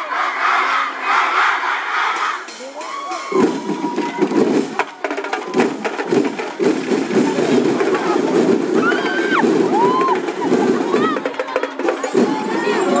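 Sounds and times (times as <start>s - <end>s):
drumming: 1.4s - 13.0s.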